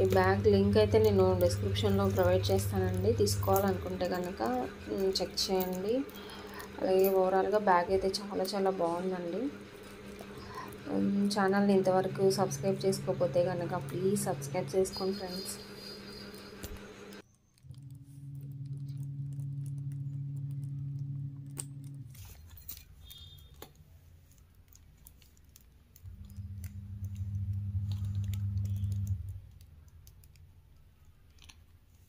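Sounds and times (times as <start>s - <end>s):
steady low hum: 0.0s - 23.3s, 26.0s - 30.7s.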